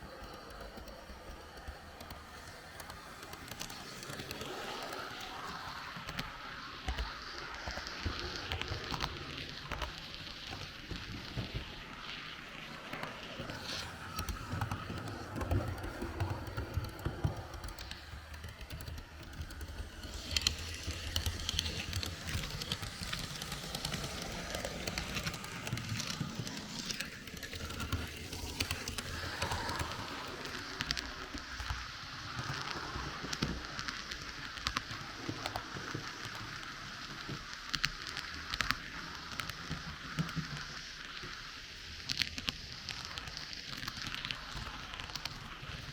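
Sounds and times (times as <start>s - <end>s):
clicks over rail joints: 0.0s - 45.9s
model train wheels rattling: 0.0s - 45.9s.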